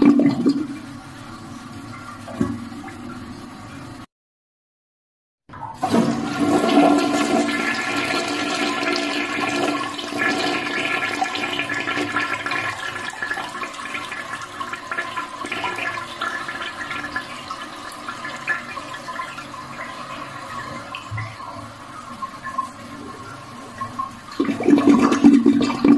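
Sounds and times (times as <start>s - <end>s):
toilet flushing: 0.0s - 4.1s, 5.5s - 25.9s.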